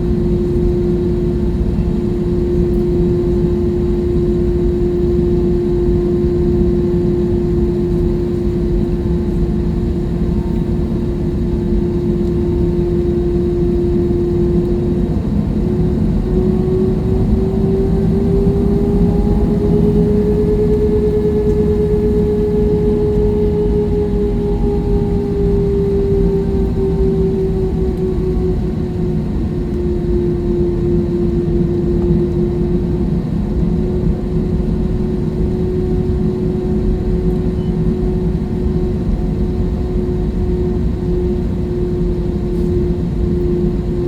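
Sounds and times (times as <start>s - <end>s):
jet engines in cabin: 0.0s - 44.0s.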